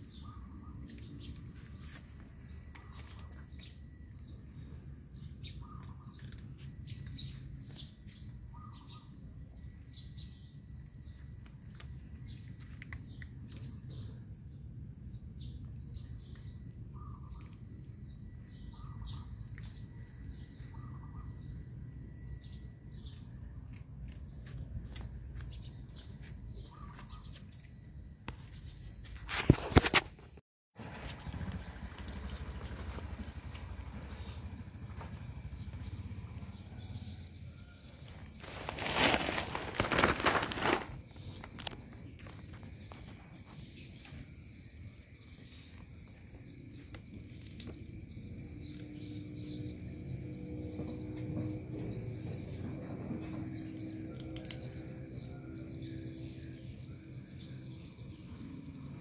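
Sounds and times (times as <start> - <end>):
small birds chirping: 0.0 - 29.8, 30.8 - 59.0.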